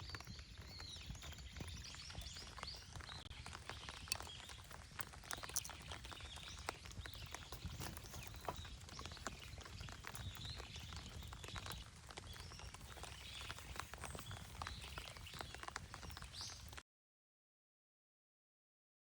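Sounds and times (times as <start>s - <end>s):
irregular ticks and crackles: 0.0s - 16.8s
small birds chirping: 0.0s - 16.8s.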